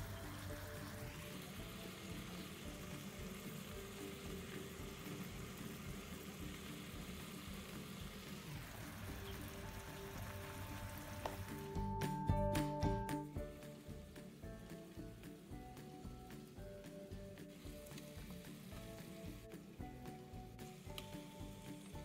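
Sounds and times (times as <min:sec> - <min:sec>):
syrup sizzling in a pan: 0:00.0 - 0:12.0, 0:13.2 - 0:22.0
soft background music: 0:00.0 - 0:22.0.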